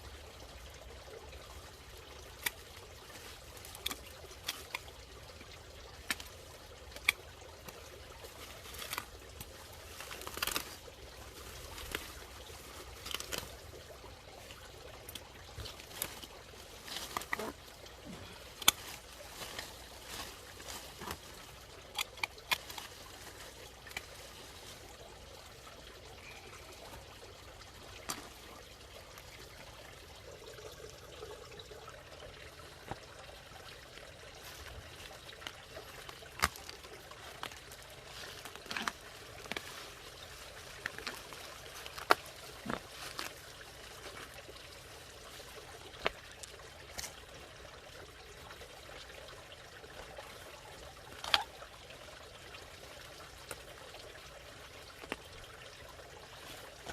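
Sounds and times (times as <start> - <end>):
water bubbling and trickling: 0.0 - 56.9.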